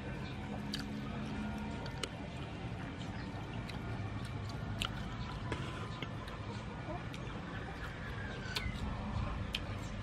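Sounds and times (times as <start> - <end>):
crunching of crispy food being chewed: 0.0 - 10.0
low outdoor background noise: 0.0 - 10.0.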